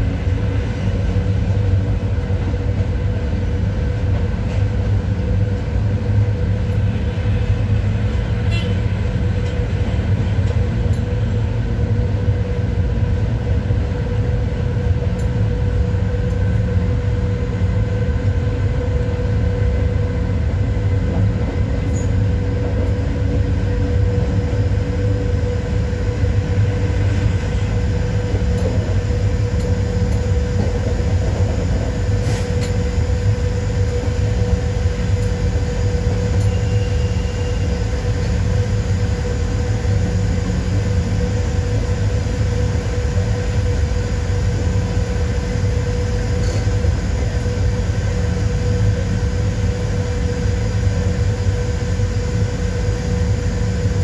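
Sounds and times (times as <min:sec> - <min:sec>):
locomotive hum: 0:00.0 - 0:54.0
train wheels rumbling on rails: 0:00.0 - 0:54.0.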